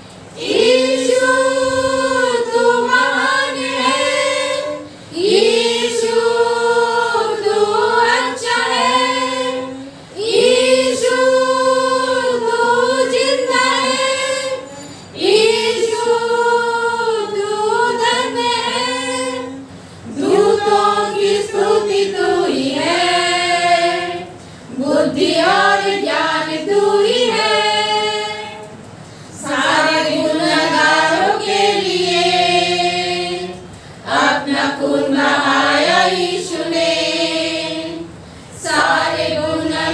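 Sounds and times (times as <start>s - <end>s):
women's choir singing a hymn: 0.0s - 39.9s.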